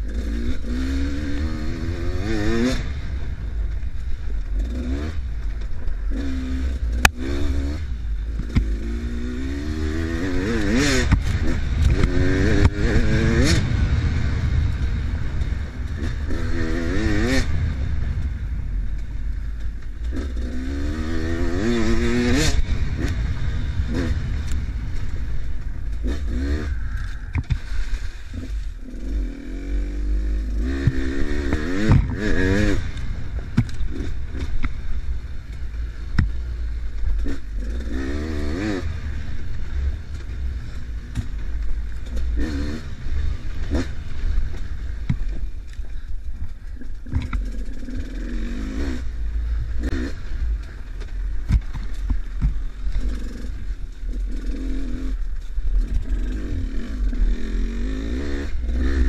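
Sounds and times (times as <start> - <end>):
knocks and clatter from trail: 0.0 - 29.2, 30.4 - 59.0
dirt bike engine revving: 0.0 - 59.0
low rumble: 0.0 - 59.0.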